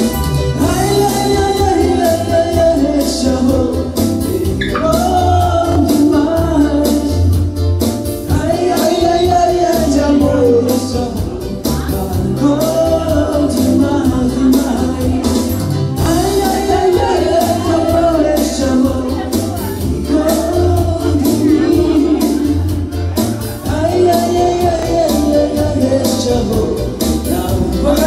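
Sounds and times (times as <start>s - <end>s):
amplified backing music: 0.0s - 28.0s
man singing into microphone: 0.0s - 28.0s.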